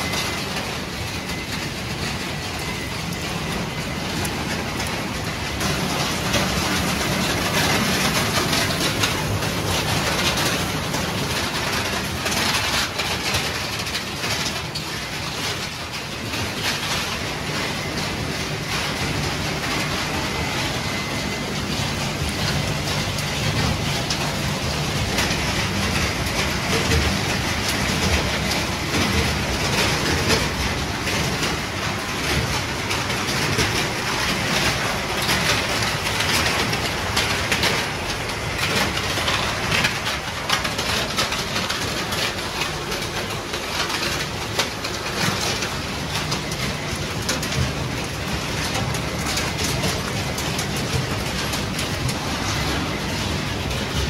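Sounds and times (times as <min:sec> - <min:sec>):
machinery low hum: 0:00.0 - 0:54.0.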